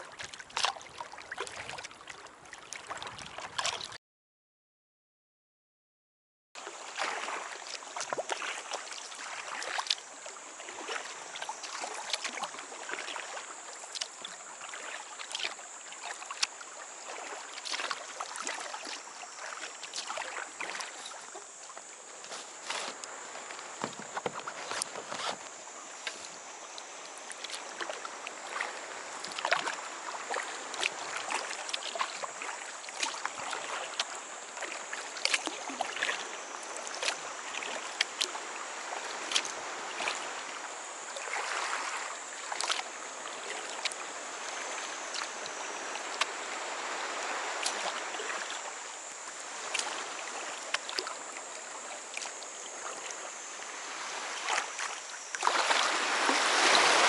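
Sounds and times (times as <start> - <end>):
paddle splashing and dripping: 0.0 - 4.0, 6.6 - 57.0.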